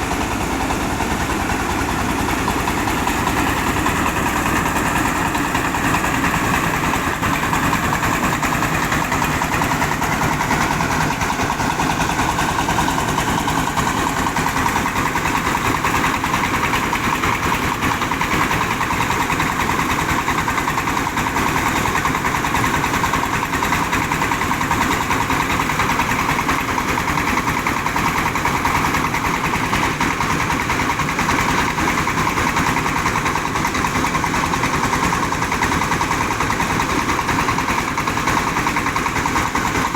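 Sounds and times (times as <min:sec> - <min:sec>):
diesel engine and milling machinery: 0:00.0 - 0:39.9.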